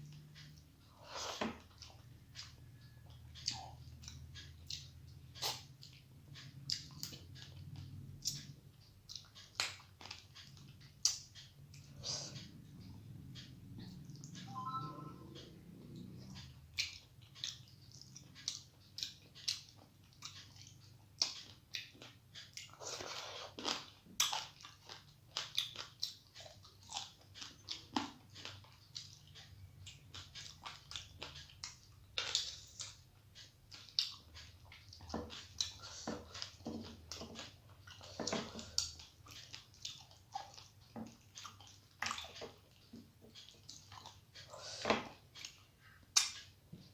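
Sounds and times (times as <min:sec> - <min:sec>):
person chewing and crunching food: 0:00.0 - 0:14.8, 0:15.8 - 0:46.9.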